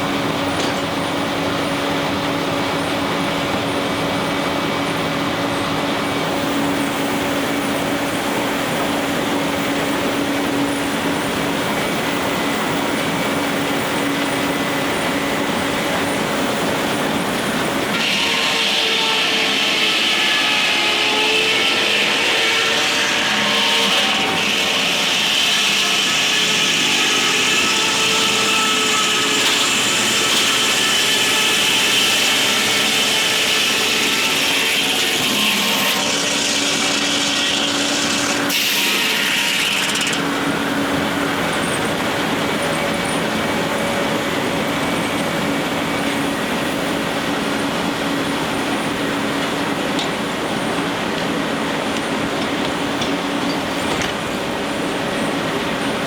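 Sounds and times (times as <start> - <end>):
circular saw whine: 0.0 - 56.0
sawmill machinery running: 0.0 - 56.0.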